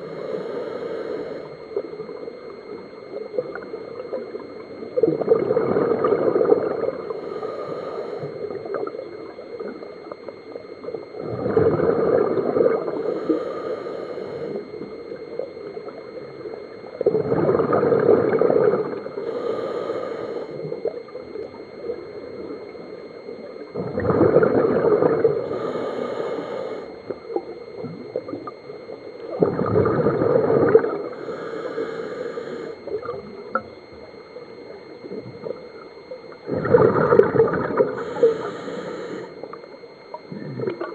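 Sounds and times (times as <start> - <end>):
exhaled bubbles gurgling underwater: 0.0 - 40.9.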